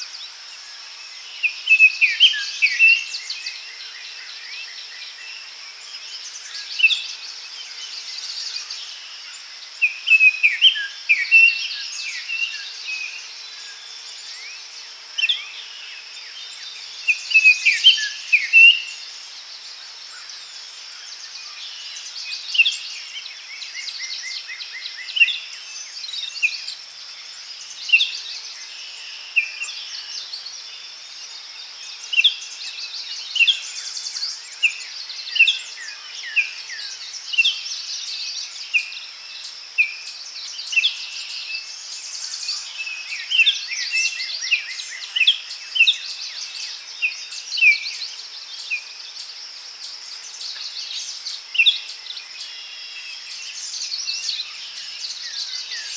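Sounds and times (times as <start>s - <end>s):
insect drone: 0.0s - 55.9s.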